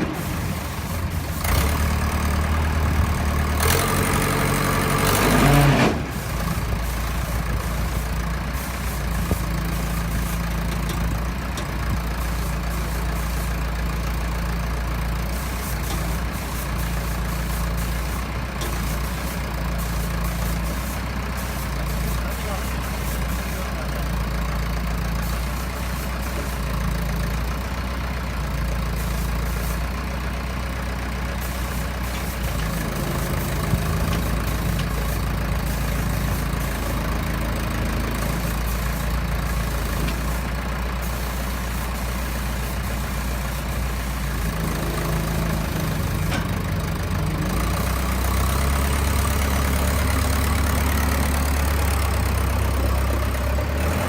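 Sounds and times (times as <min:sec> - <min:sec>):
heavy machinery humming: 0:00.0 - 0:54.0.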